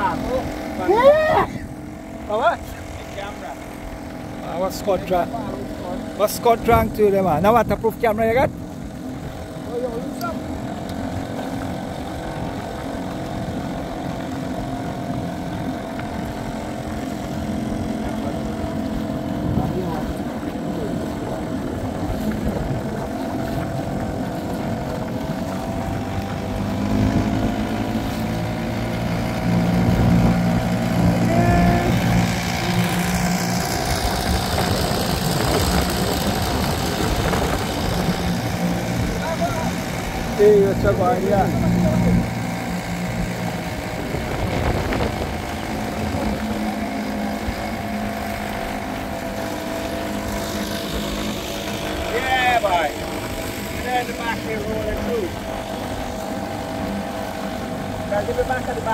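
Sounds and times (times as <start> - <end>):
outboard motor running: 0.0 - 58.9.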